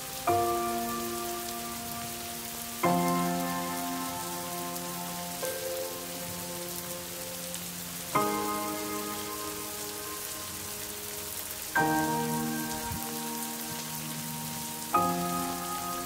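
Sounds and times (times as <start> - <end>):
heavy rain falling: 0.0 - 16.0
soft background music chords: 0.0 - 16.0.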